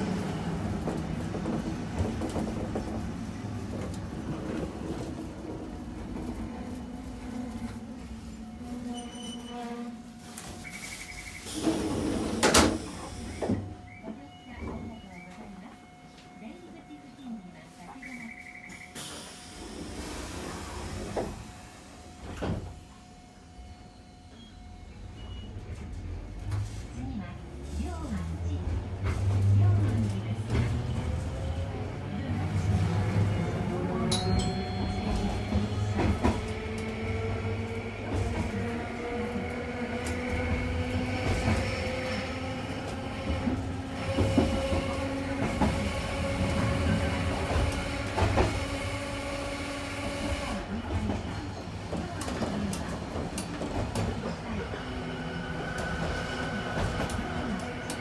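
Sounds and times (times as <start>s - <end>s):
tram clunks: 0.0s - 58.0s
tram running rumble: 0.0s - 58.0s.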